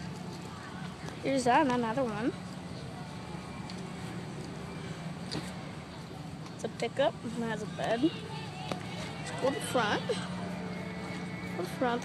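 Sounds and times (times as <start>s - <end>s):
outdoor background noise: 0.0s - 12.0s
vehicle engine low hum: 0.0s - 12.0s.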